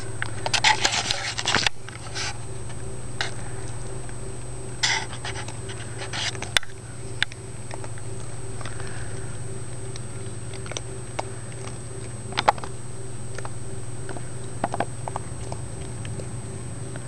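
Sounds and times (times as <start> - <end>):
animals crunching food pellets: 0.0 - 17.0
low hum: 0.0 - 17.0.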